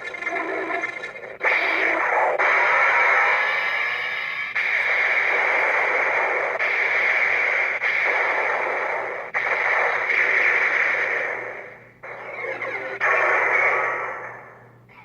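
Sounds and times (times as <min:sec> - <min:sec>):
toy belt electronic sound effects: 0:00.0 - 0:14.4.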